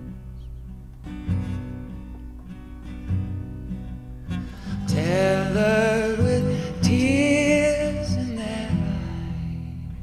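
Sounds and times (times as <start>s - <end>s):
guitar accompaniment: 0.0s - 10.0s.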